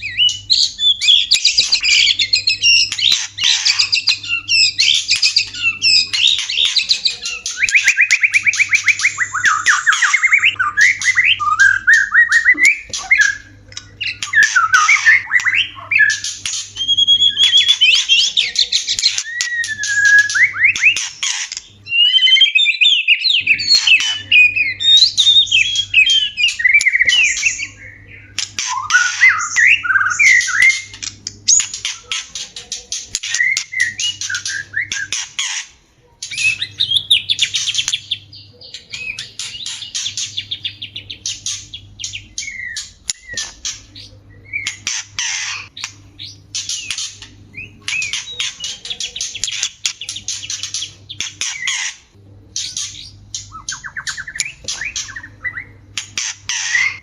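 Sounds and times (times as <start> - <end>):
bird song whistles and trills: 0.0 - 57.0.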